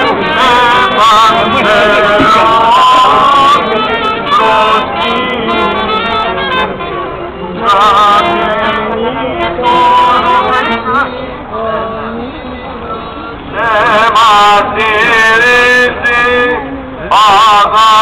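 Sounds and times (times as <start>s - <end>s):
male voices chanting a hymn: 0.0s - 18.0s.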